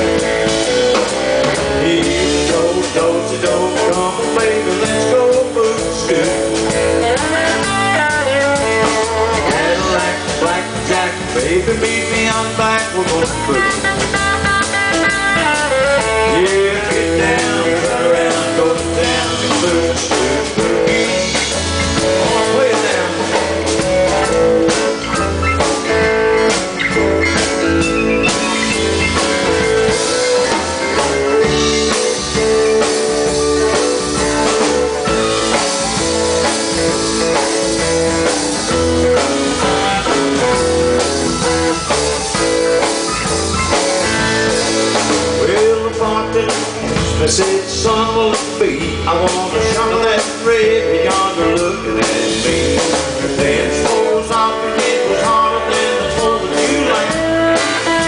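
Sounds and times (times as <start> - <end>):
drum kit beat: 0.0 - 58.0
electric guitar lead: 0.0 - 58.0
live country band playing: 0.0 - 58.0.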